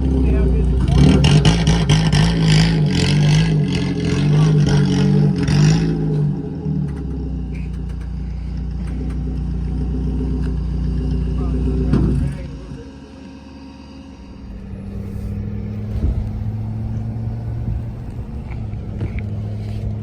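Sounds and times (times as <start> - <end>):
road noise: 0.0 - 20.0
vehicle engine: 0.0 - 20.0.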